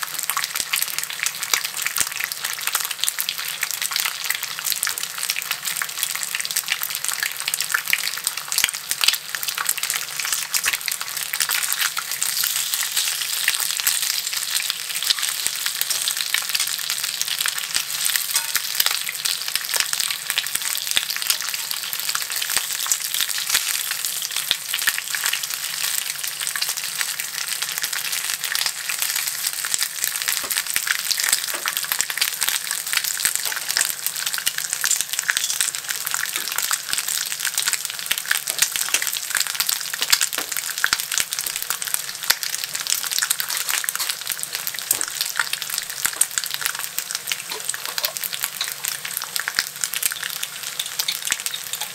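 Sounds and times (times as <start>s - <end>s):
bacon sizzling in a skillet: 0.0s - 51.9s.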